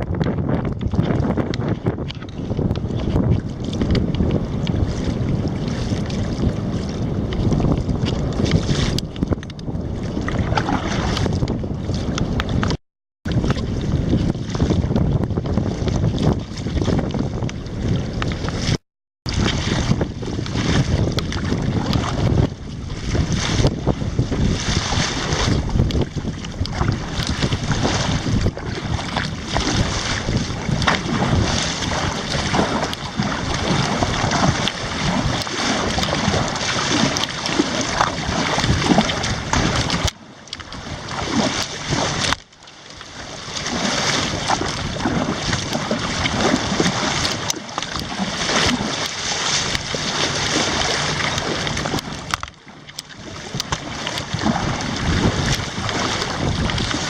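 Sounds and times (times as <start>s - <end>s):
water against a hull: 0.0s - 57.0s
wind noise on microphone: 0.0s - 57.0s
paddle splashes: 0.1s - 57.0s.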